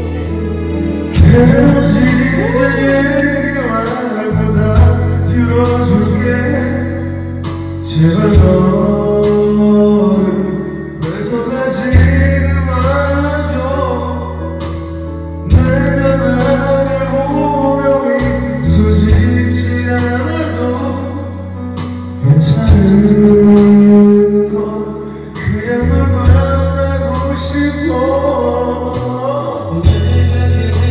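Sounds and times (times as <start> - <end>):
karaoke backing track: 0.0 - 30.9
man singing pop ballad: 0.0 - 30.9.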